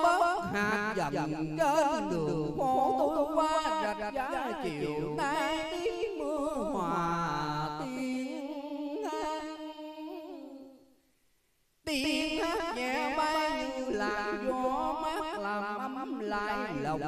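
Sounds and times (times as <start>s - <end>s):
man singing into a microphone: 0.0s - 10.7s, 11.9s - 17.0s.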